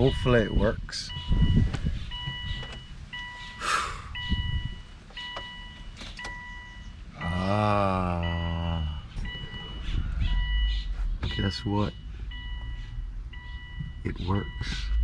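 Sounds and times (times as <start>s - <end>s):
car warning chime: 0.0s - 15.0s.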